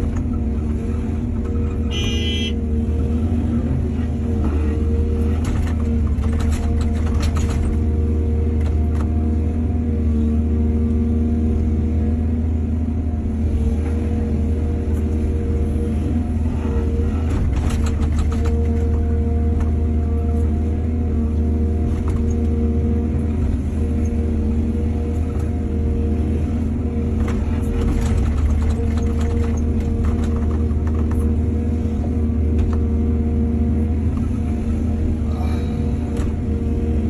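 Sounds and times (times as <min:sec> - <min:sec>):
excavator diesel engine humming: 0:00.0 - 0:37.0.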